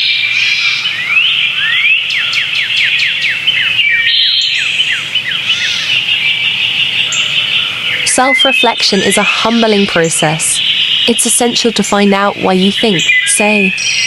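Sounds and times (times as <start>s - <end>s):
chorus of birds: 0.0s - 14.0s
downward sweeping bird chirps: 0.0s - 14.0s.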